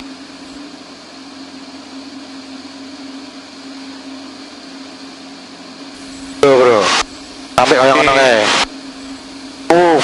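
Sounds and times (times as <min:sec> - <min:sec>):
propeller aircraft engine drone: 0:00.0 - 0:10.0.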